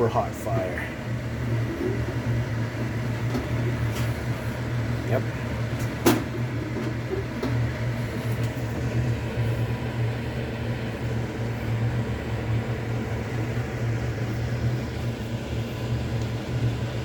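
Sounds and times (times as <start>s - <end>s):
kitchen appliances humming: 0.0s - 17.0s.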